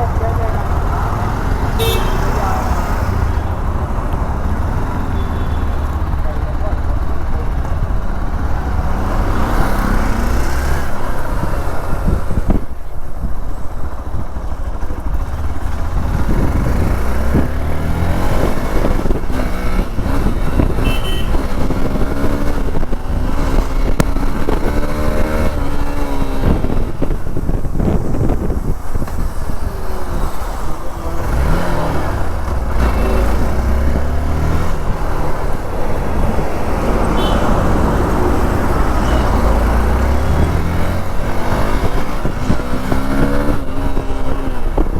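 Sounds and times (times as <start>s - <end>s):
motorcycle engine revving: 0.0s - 12.6s, 14.0s - 44.9s.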